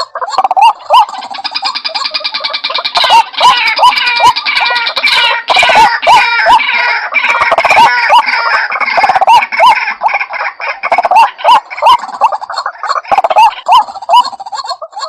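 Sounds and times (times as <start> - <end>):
harsh croaking calls: 0.0 - 15.0.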